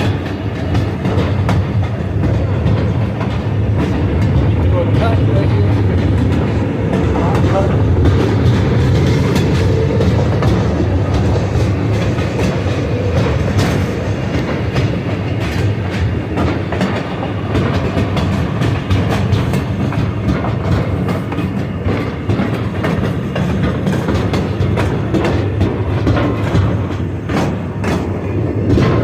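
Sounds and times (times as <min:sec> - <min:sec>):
rail clicks and knocks: 0:00.0 - 0:29.0
train wheels rumbling on track: 0:00.0 - 0:29.0.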